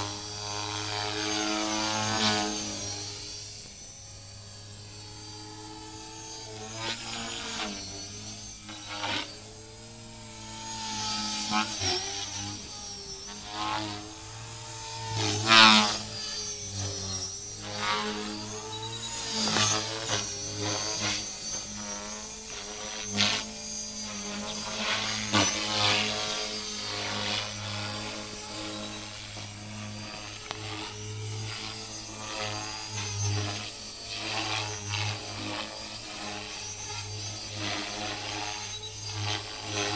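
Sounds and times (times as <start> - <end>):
rc helicopter motor and rotor whine: 0.0 - 39.9.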